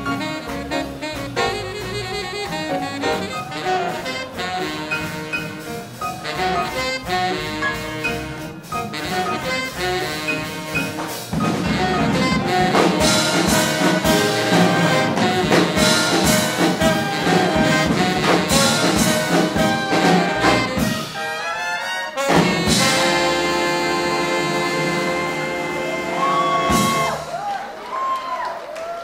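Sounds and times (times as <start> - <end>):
big band playing swing: 0.0 - 29.0.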